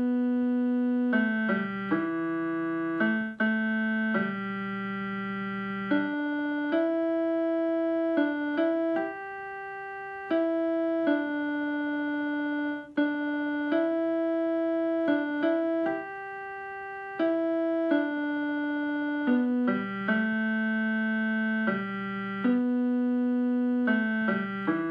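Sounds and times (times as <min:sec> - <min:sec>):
electronic keyboard held chords: 0:00.0 - 0:24.9.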